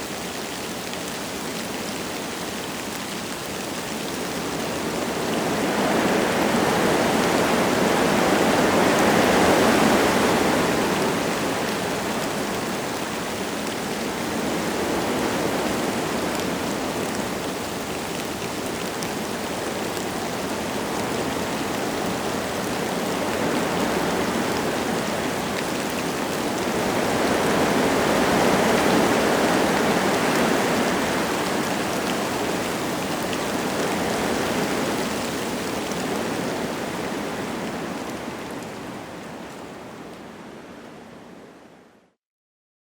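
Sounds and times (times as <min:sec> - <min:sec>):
light rain falling: 0:00.0 - 0:41.9
wind gusting through trees: 0:00.0 - 0:41.9.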